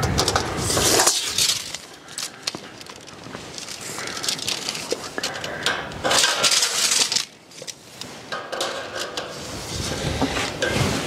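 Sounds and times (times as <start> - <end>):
scraping and rustling: 0.0 - 11.0.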